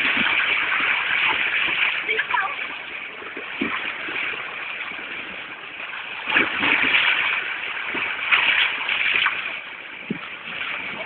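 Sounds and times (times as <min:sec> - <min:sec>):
sea waves washing around rocks: 0:00.0 - 0:11.0.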